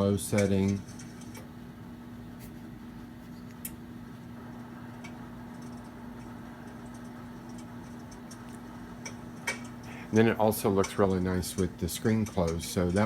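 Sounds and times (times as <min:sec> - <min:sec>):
electric fireplace hum: 0:00.0 - 0:13.0.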